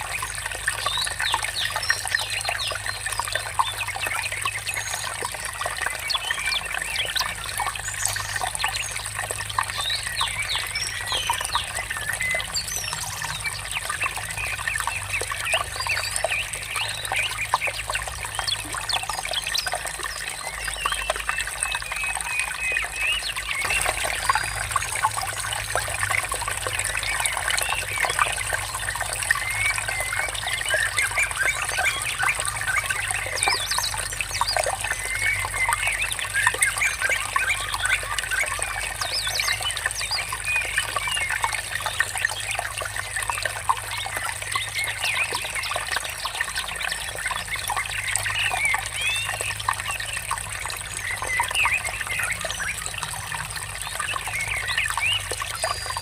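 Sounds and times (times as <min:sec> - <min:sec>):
small birds chirping: 0:00.0 - 0:56.0
water trickling: 0:00.0 - 0:56.0.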